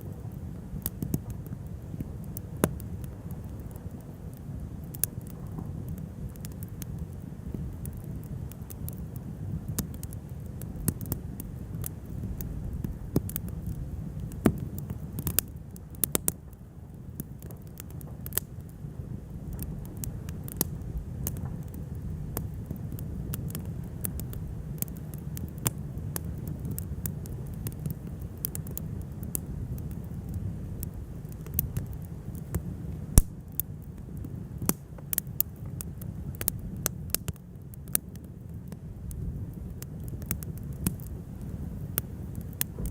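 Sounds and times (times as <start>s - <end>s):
low fire rumble: 0.0s - 42.9s
wood fire crackling: 0.0s - 42.9s.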